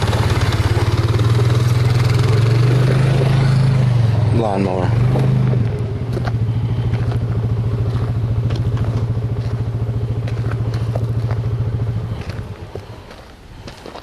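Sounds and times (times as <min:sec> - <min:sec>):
quad bike engine idling: 0:00.0 - 0:13.3.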